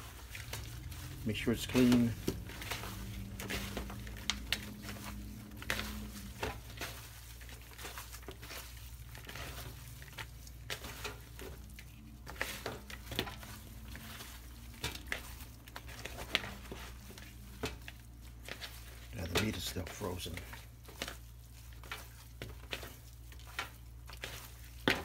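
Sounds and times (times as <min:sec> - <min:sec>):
hands squishing meat in marinade: 0:00.0 - 0:25.0.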